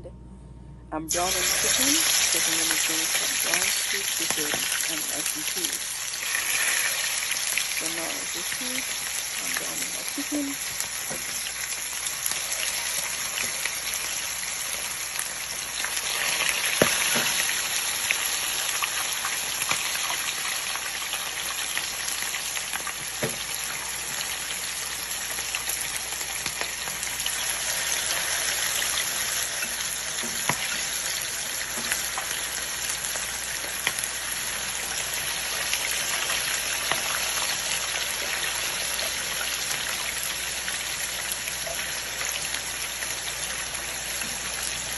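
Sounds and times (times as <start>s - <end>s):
chicken sizzling in hot oil: 1.1s - 44.9s.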